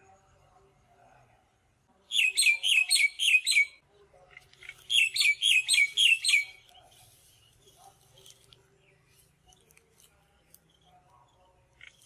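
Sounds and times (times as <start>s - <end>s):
bird singing: 2.1s - 12.0s.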